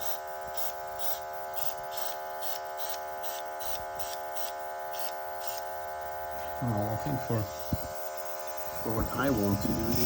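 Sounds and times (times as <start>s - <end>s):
airbrush compressor buzzing hum: 0.0s - 10.0s
pulsing air hiss: 0.0s - 10.0s.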